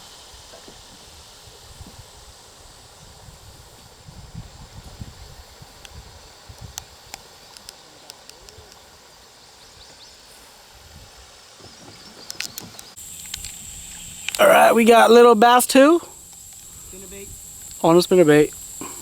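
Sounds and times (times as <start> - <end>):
quiet river: 0.0 - 19.0.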